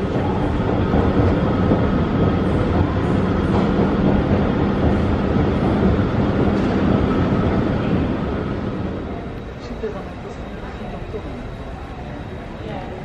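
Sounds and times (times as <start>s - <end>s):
escalator rumbling: 0.0s - 13.0s.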